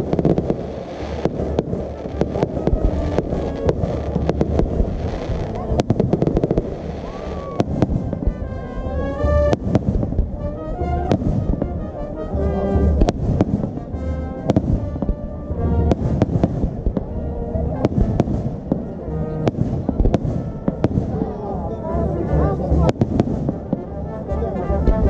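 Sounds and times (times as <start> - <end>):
fireworks bangs and crackles: 0.0 - 25.0
music playing: 0.0 - 25.0.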